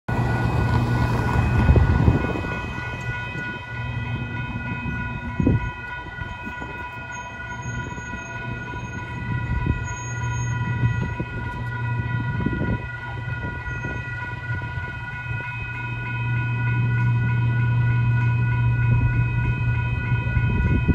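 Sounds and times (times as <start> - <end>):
crossing warning bell: 0.1 - 20.9.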